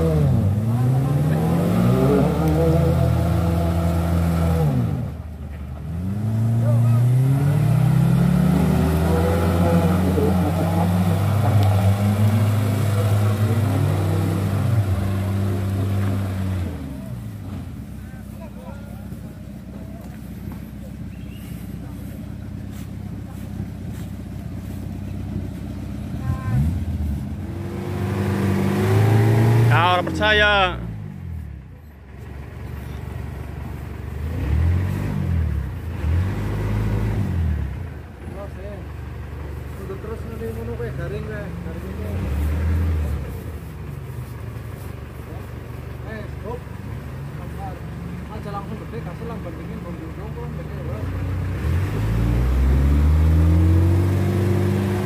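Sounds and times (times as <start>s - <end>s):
pickup engine droning under load: 0.0s - 55.0s.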